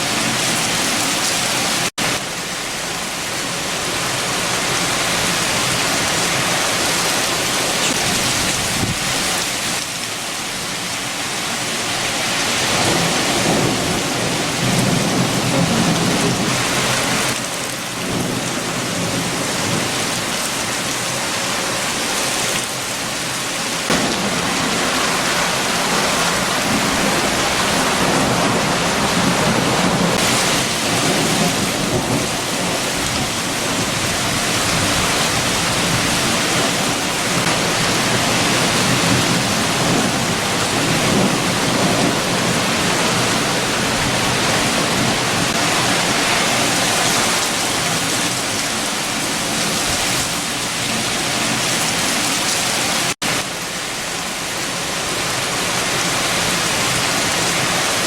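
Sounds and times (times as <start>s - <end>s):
heavy rain hissing: 0.0s - 58.0s
strong gusting wind: 3.5s - 9.8s, 10.4s - 53.4s.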